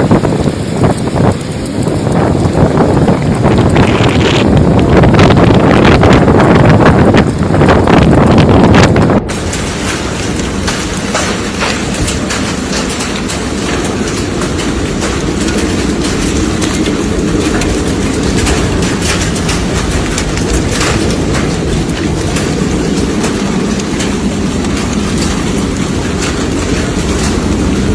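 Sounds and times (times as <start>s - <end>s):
storm wind rumbling: 0.0s - 27.9s.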